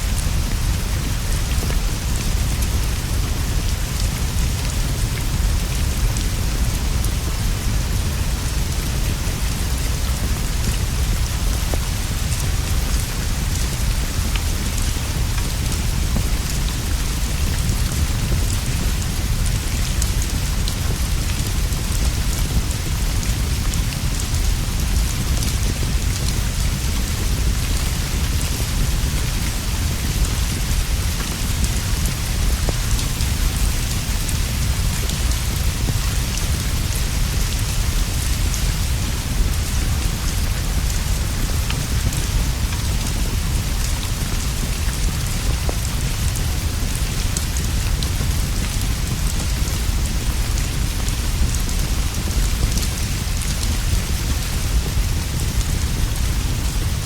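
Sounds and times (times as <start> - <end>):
rain on leaves and straw roof: 0.0 - 57.0.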